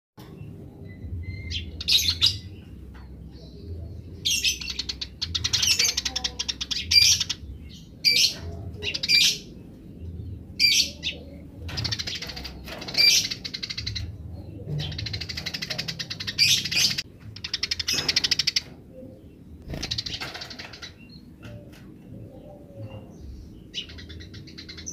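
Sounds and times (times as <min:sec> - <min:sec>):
sparrows chattering: 0:00.2 - 0:24.9.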